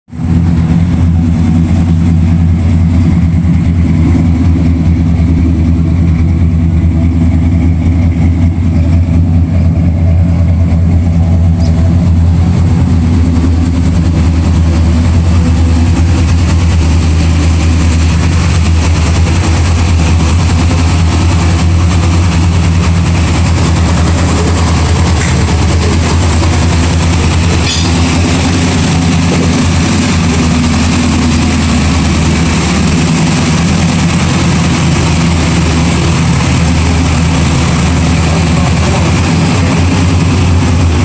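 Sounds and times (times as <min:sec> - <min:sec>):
car engine idling: 0:00.1 - 0:41.0.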